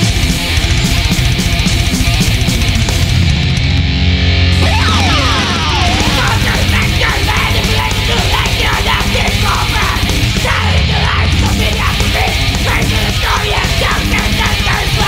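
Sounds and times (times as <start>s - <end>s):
fast drumming: 0.0s - 3.7s, 4.6s - 15.0s
distorted electric guitars: 0.0s - 15.0s.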